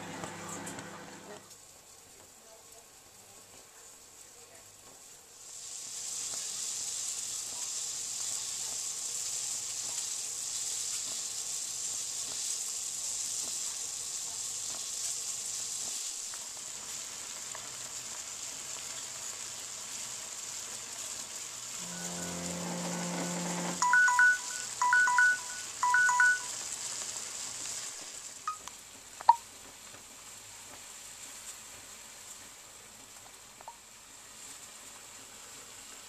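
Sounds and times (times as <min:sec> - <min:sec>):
water boiling in saucepan: 0:00.0 - 0:36.0.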